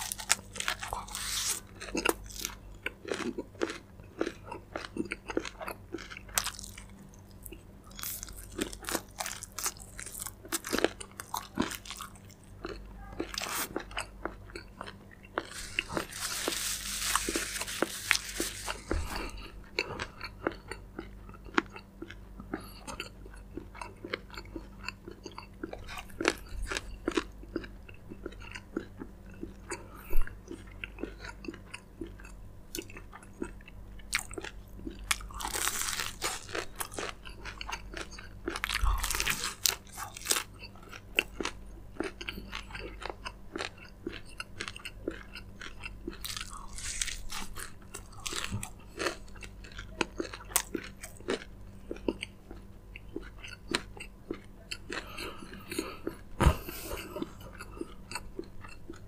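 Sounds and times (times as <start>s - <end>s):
crunchy chewing of fried chicken: 0.0s - 59.0s.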